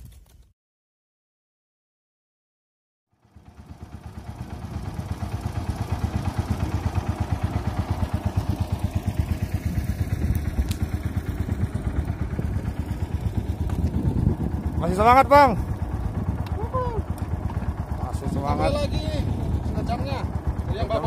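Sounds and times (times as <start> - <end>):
outboard motor running: 3.1 - 21.0.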